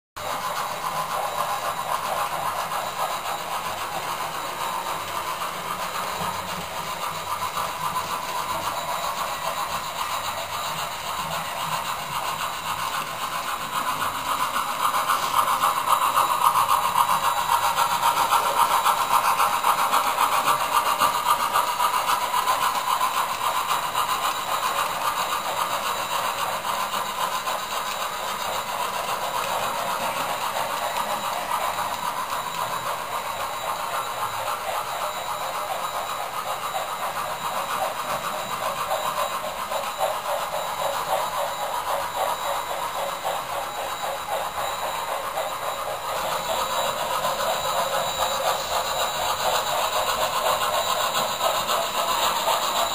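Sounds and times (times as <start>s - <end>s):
model train whir and rattle: 0.2s - 52.9s.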